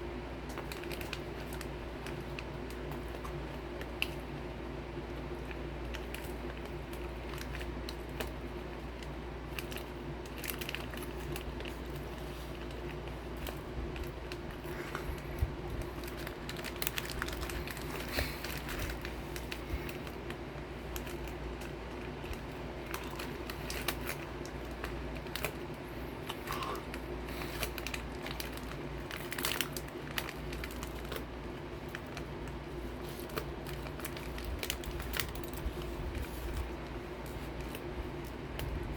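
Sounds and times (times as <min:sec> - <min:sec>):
steady low hum: 0:00.0 - 0:38.9
snack wrapper crinkling: 0:00.5 - 0:04.4, 0:05.2 - 0:38.9
crackers crunching while eating: 0:05.0 - 0:38.9.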